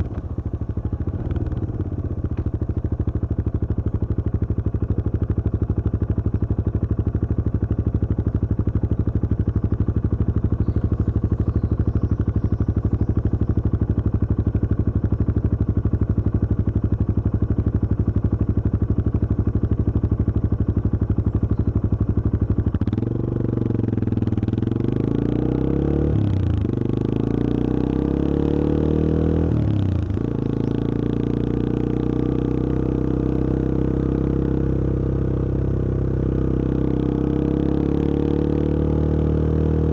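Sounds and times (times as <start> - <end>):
motorcycle engine running: 0.0 - 39.9
motorcycle revving and pulling away: 0.0 - 39.9.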